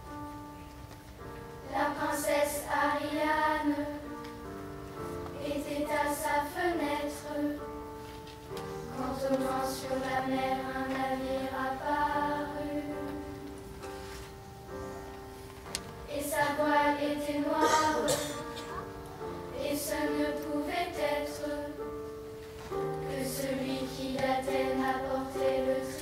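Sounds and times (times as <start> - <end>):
held accompaniment chords: 0.0 - 26.0
children's choir singing: 1.6 - 14.1, 16.0 - 22.2, 22.8 - 26.0.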